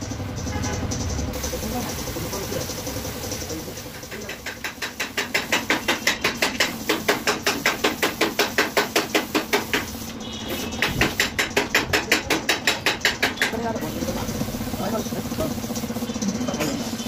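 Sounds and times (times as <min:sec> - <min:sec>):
rapid metallic tapping: 0:00.0 - 0:17.0
workshop noise: 0:00.0 - 0:17.0.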